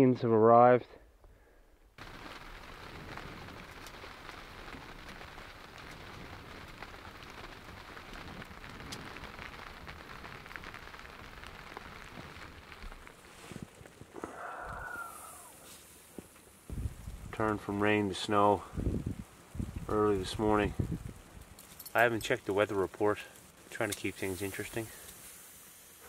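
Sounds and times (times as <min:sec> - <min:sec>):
steady rain falling: 0:02.0 - 0:26.0.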